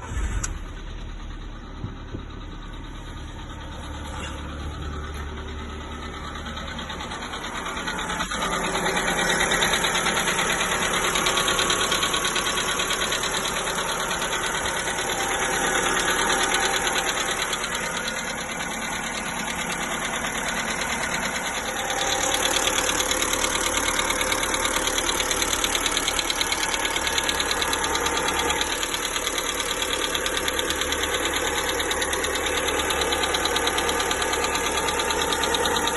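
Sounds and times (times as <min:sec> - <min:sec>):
engine idling with ticking knock: 0:00.0 - 0:35.9.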